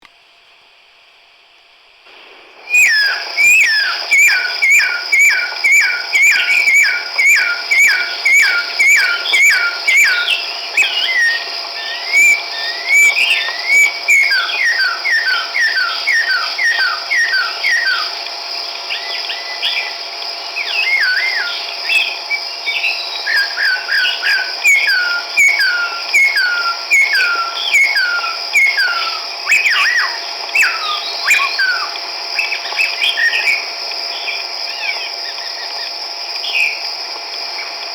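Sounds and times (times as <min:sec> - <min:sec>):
bird whistled calls: 0:02.6 - 0:18.2, 0:18.8 - 0:36.8.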